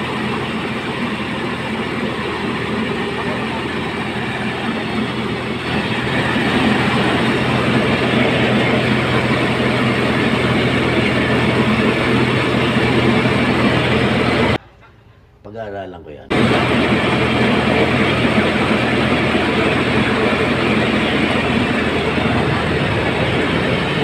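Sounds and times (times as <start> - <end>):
rice mill engine humming: 0.0 - 14.6, 16.3 - 24.0.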